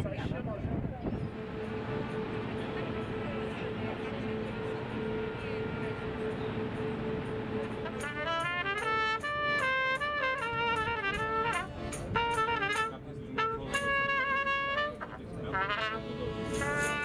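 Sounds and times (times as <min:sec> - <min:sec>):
trumpet playing a melody: 0:01.3 - 0:17.0.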